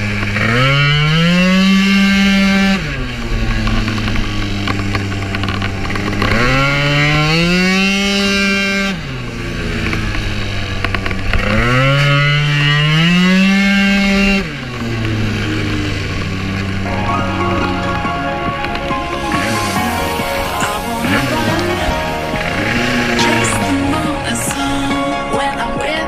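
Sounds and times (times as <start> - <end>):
two-stroke scooter engine revving: 0.0 - 26.0.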